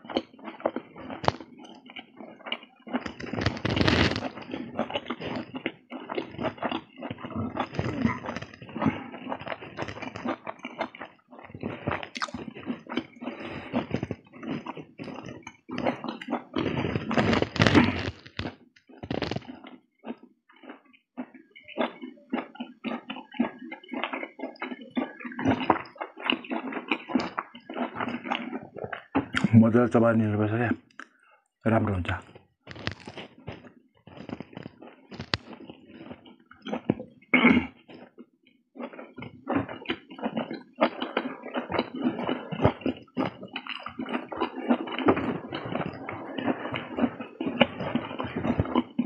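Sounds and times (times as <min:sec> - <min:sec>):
man chewing with mouth smacking: 0:00.0 - 0:29.6, 0:32.2 - 0:49.0.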